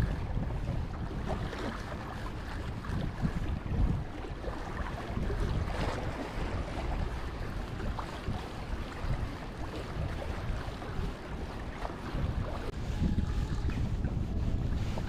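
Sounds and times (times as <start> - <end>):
sea water washing: 0.0 - 15.0
wind buffeting microphone: 0.0 - 15.0.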